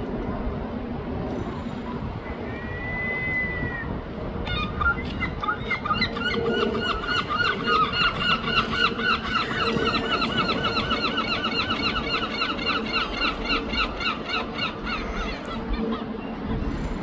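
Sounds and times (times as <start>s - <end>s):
gulls calling: 1.6s - 17.0s.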